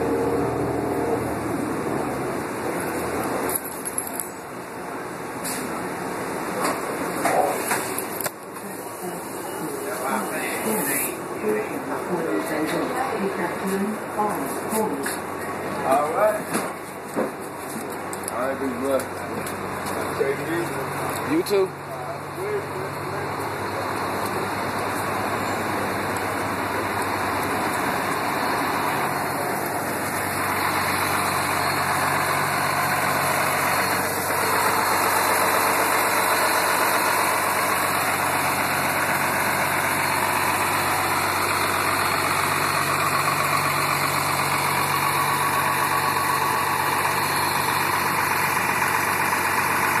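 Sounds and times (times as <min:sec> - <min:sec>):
bus diesel engine idling: 0:00.0 - 0:50.0.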